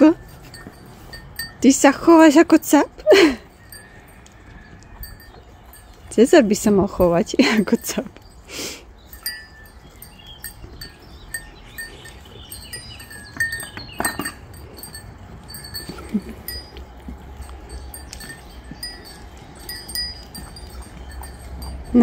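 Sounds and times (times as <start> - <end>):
goat bells clinking: 0.0 - 22.0.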